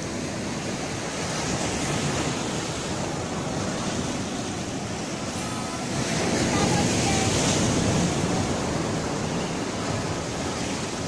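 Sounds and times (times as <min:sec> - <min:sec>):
surf breaking over rocks: 0:00.0 - 0:11.0.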